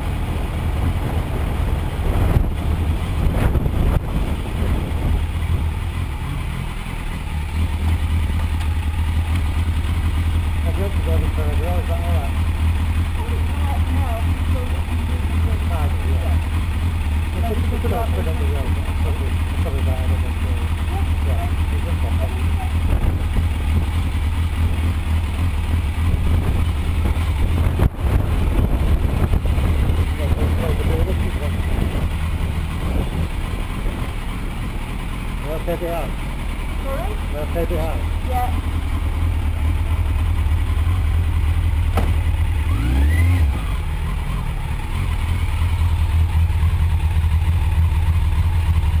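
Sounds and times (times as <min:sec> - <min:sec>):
motorcycle engine low rumble: 0:00.0 - 0:49.0.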